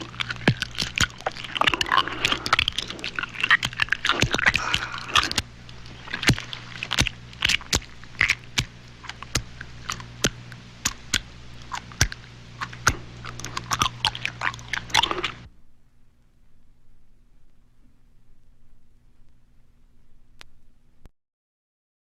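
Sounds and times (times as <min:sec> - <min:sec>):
crunching and crackling snaps: 0:00.0 - 0:21.1
low steady hum: 0:00.0 - 0:21.1.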